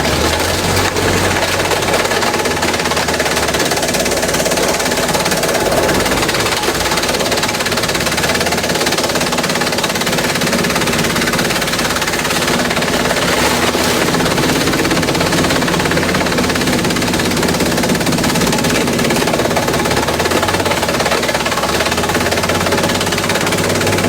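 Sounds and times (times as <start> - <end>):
machine hum: 0.0 - 24.0
shredder clattering through bamboo: 0.0 - 24.0.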